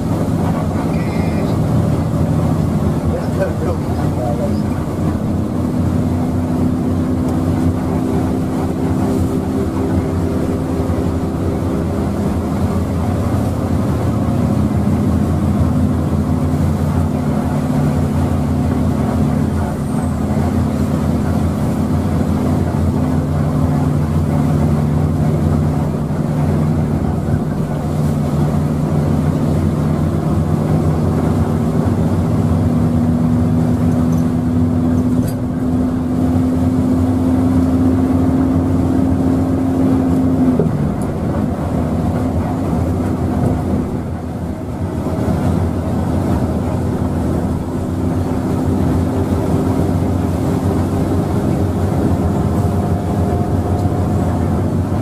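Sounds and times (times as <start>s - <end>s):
bus engine droning: 0.0s - 55.0s
steady cabin noise: 0.0s - 55.0s.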